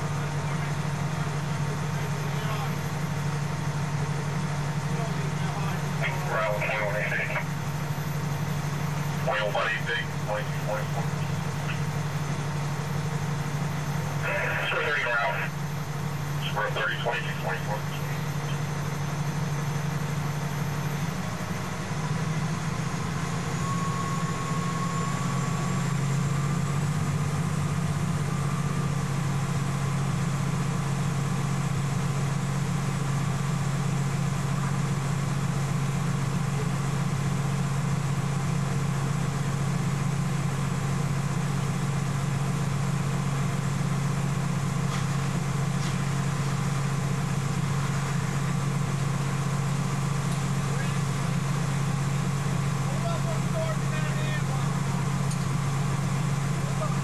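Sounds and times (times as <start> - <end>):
engine low drone from cab: 0.0 - 57.0.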